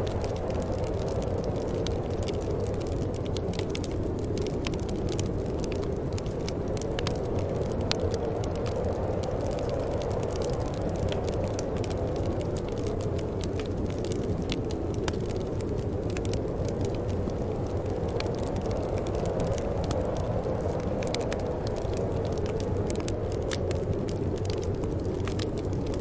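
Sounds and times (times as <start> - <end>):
low wind: 0.0 - 26.0
wood fire crackling: 0.0 - 26.0.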